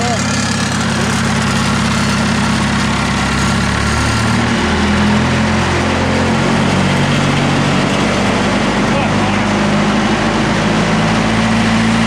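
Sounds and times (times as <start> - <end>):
wood chipper engine running: 0.0 - 12.0.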